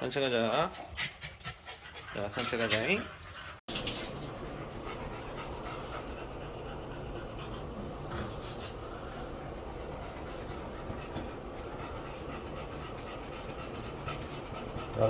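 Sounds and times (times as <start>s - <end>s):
dog panting: 0.3s - 15.0s.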